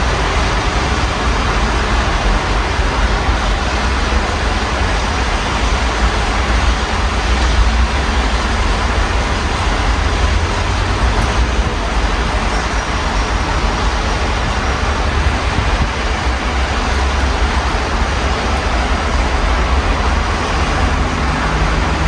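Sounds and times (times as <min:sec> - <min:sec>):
city traffic rumble: 0:00.0 - 0:22.0
rain falling: 0:00.0 - 0:22.0.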